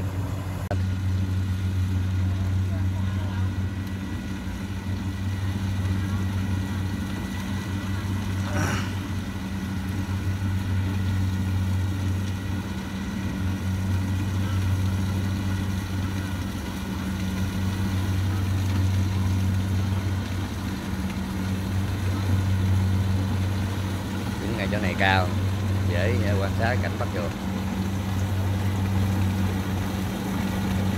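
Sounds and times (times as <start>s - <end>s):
diesel engine humming: 0.0s - 30.9s.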